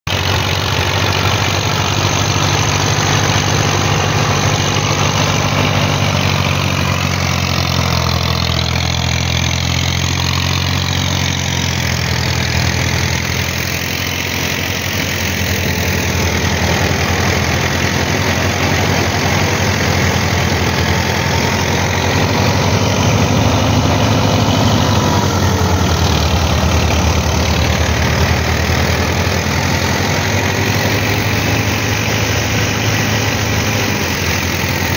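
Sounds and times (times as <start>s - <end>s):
tractor diesel engine running: 0.0s - 34.9s
thresher rushing noise: 0.2s - 34.9s.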